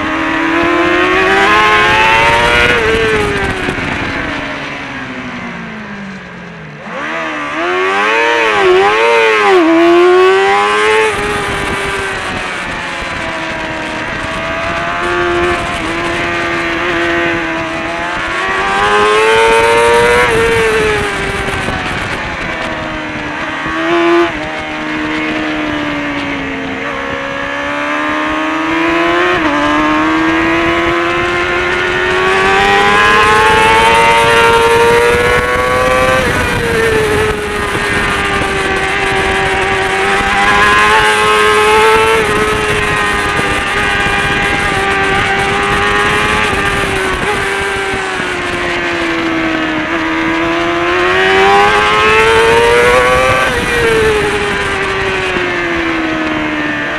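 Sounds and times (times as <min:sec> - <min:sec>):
wind rushing: 0:00.0 - 0:04.7, 0:07.4 - 0:56.9
motorcycle engine revving: 0:00.0 - 0:56.9.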